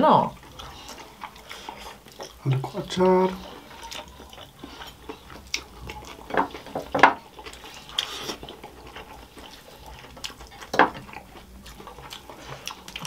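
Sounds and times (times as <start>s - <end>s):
wet mouth smacks and chewing: 0.4s - 2.8s, 3.4s - 13.0s.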